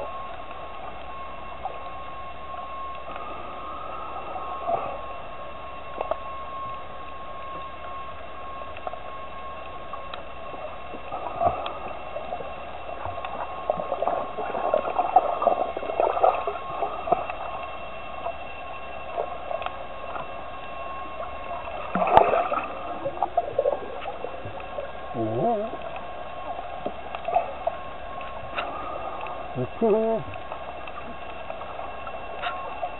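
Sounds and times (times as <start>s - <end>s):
faint steady tone: 0.0s - 32.9s
underwater bubbling and gurgling: 0.0s - 32.9s.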